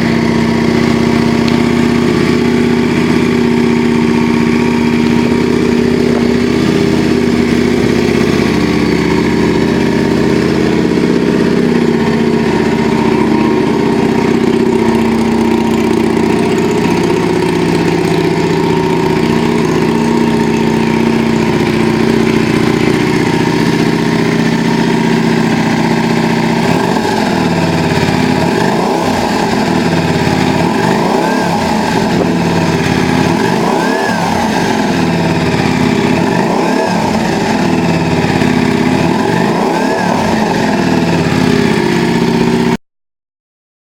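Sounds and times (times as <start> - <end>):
motorcycle engine idling: 0.0 - 42.8.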